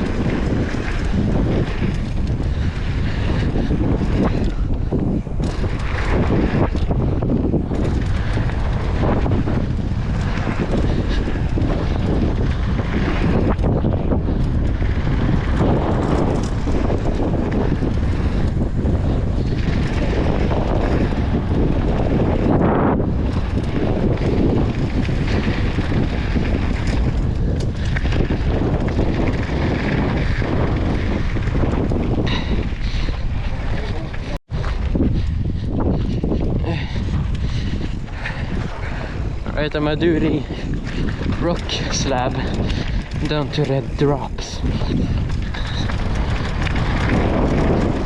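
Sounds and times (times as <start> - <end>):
mountain bike rumbling on dirt trail: 0.0 - 48.0
wind buffeting microphone: 0.0 - 48.0.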